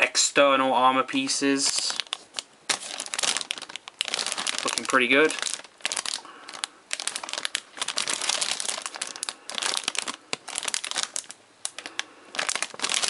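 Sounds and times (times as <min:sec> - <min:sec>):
plastic bag crinkling: 0:01.2 - 0:13.0.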